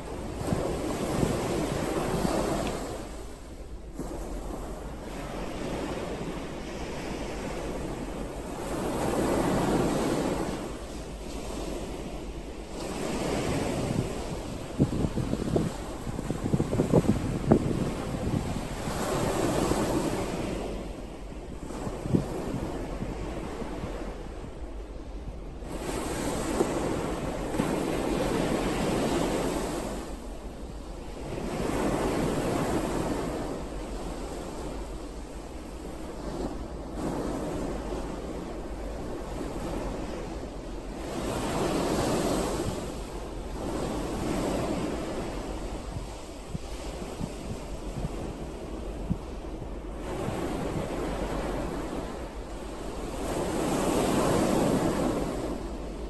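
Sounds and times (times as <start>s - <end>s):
ocean waves washing ashore: 0.0s - 56.0s
wind buffeting microphone: 0.0s - 56.0s.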